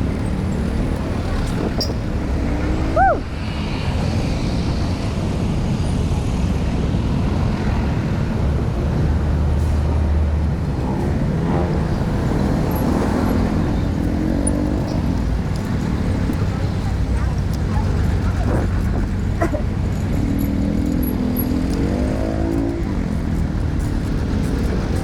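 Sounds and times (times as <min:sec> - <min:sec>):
road traffic noise: 0:00.0 - 0:25.0
vehicle engine passing: 0:00.0 - 0:25.0
wind rumble on microphone: 0:00.0 - 0:25.0.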